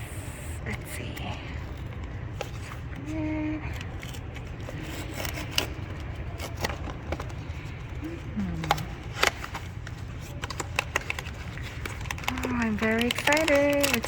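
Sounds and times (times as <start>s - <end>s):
steady low hum: 0.0s - 14.0s
packaging crinkling: 1.5s - 14.0s.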